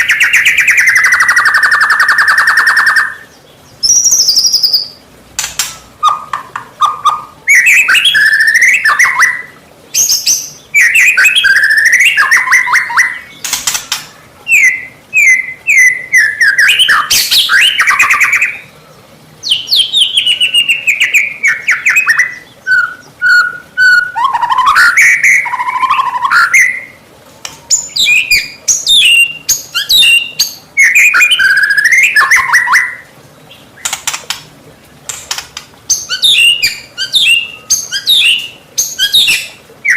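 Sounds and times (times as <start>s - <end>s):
songbird singing whistles and trills: 0.0s - 34.4s, 35.3s - 39.9s.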